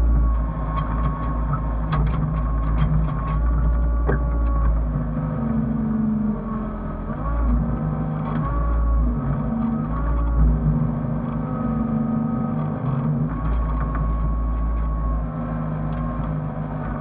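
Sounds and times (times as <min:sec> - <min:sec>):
excavator diesel engine: 0:00.0 - 0:17.0
steady whine: 0:00.0 - 0:17.0.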